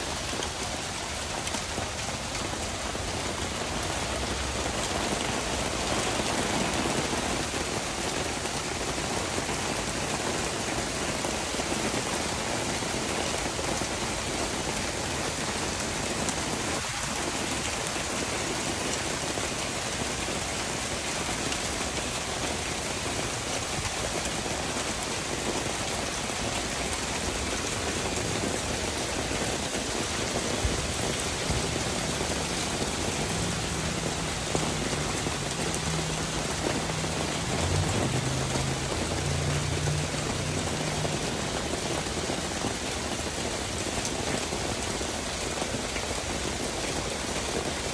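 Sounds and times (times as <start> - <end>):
hail falling on turf and pavement: 0.0 - 47.9.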